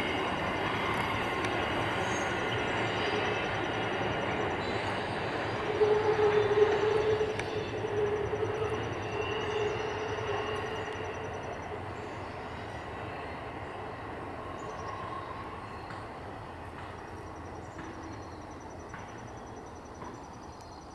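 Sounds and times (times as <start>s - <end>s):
freight train rolling on rails: 0.0s - 20.9s.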